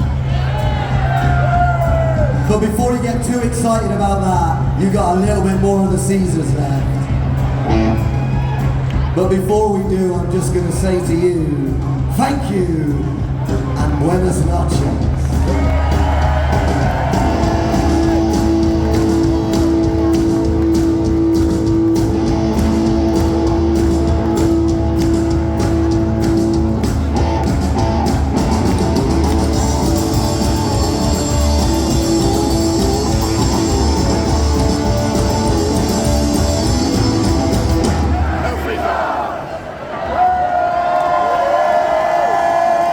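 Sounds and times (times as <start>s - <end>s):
rockabilly band playing: 0.0s - 38.4s.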